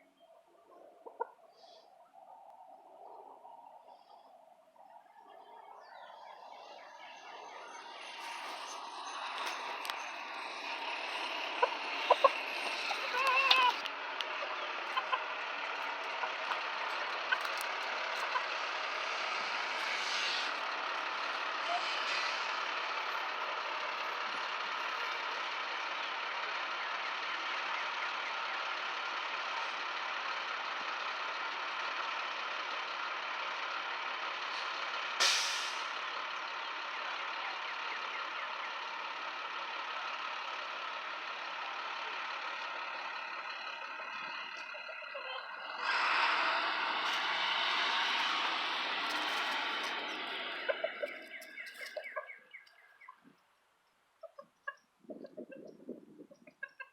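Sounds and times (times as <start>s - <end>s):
vehicle engine running: 5.4s - 53.4s.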